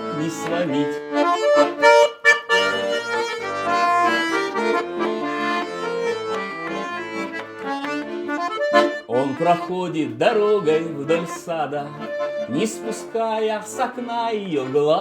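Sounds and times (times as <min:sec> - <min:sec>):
button accordion melody: 0:00.0 - 0:15.0.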